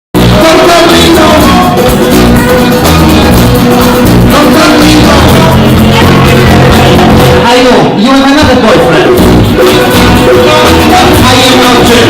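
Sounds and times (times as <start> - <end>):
live band playing loud music: 0.1 - 12.0.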